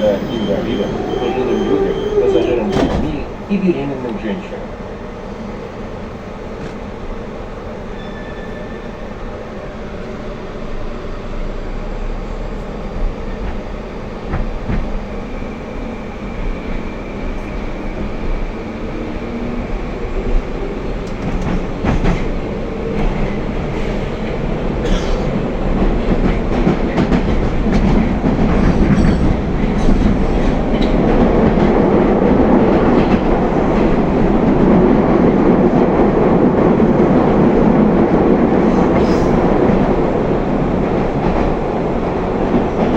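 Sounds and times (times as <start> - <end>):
train wheels on rail: 0.0 - 11.4, 12.3 - 42.9.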